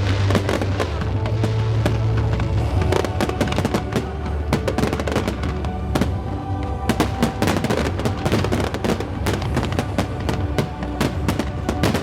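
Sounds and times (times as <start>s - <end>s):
fireworks bursting and crackling: 0.0s - 12.0s
music with sustained tones: 0.0s - 12.0s.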